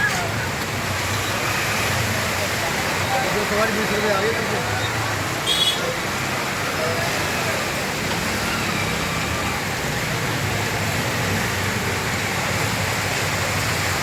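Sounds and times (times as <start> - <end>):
rain: 0.0 - 14.0
road traffic: 0.0 - 14.0.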